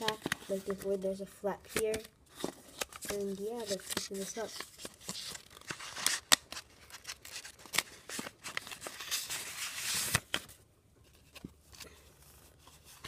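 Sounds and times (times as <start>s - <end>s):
paper rustling: 0.0s - 1.1s, 1.7s - 13.0s.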